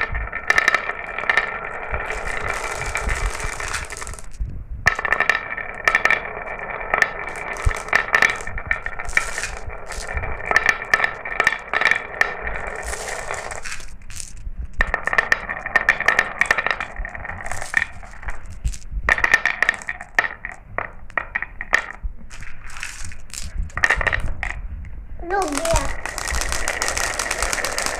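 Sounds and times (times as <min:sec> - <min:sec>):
marbles clicking and clinking: 0:00.0 - 0:24.6, 0:25.2 - 0:27.9
marbles rolling on a track: 0:00.0 - 0:24.6, 0:25.2 - 0:27.9.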